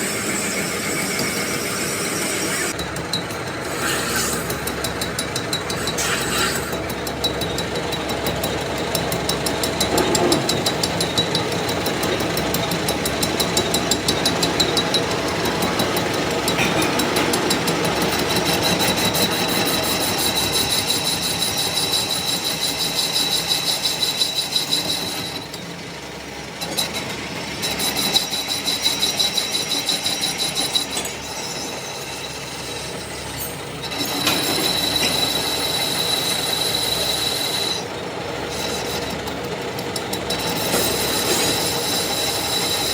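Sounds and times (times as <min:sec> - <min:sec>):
machinery rattle: 0:00.0 - 0:42.9.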